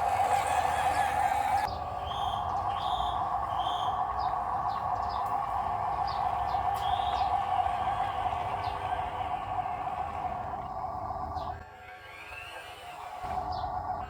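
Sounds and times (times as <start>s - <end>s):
birds chirping: 0.0s - 11.6s, 13.2s - 14.0s
steady drone: 0.0s - 11.8s.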